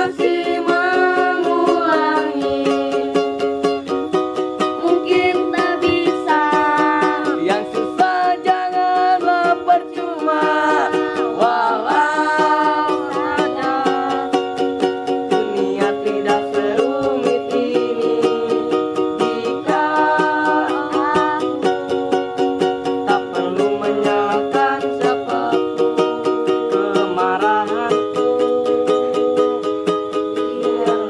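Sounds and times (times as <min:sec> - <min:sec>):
gliding melody line: 0:00.0 - 0:31.0
strummed acoustic string instrument: 0:00.0 - 0:31.0.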